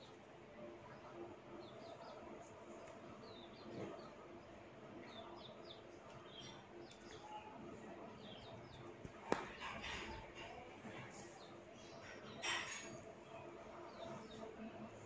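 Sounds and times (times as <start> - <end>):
low background noise: 0.0 - 15.0
small birds chirping: 0.0 - 15.0.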